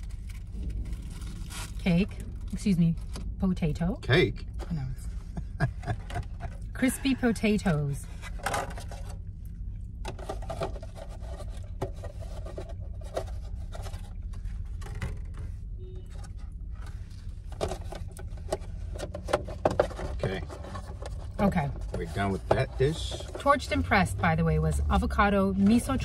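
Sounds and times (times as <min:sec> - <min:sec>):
low hum inside car: 0:00.0 - 0:26.0.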